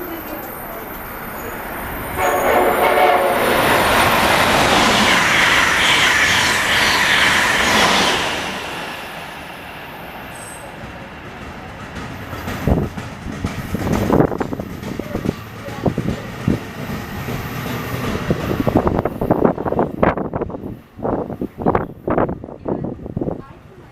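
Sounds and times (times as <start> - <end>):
high-speed train passing: 0.0 - 23.9.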